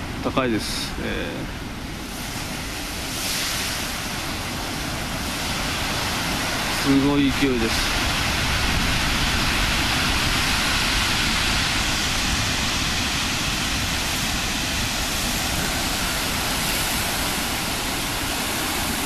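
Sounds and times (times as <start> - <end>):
heavy surf on shingle beach: 0.0 - 19.0.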